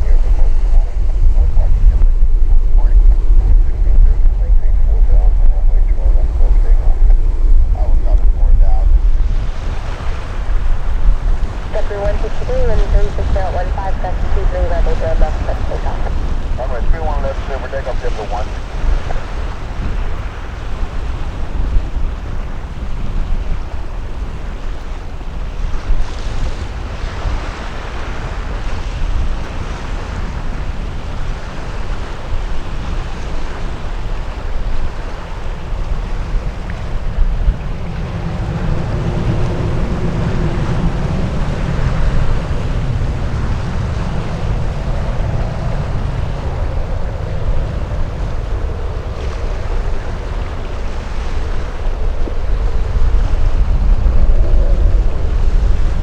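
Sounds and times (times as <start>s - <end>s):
jet airliner engine noise: 0.0s - 56.0s
wind buffeting microphone: 0.0s - 56.0s.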